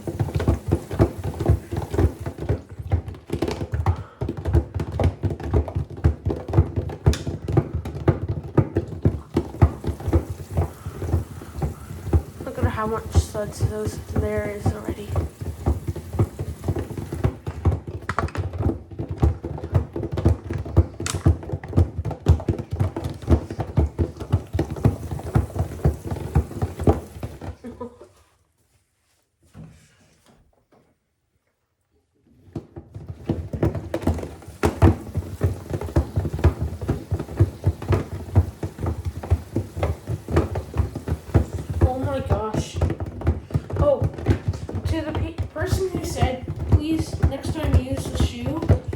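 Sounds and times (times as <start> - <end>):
object knocking in washer drum: 0.0 - 27.6, 32.6 - 48.9
washing machine churning: 0.0 - 28.0, 32.6 - 48.9.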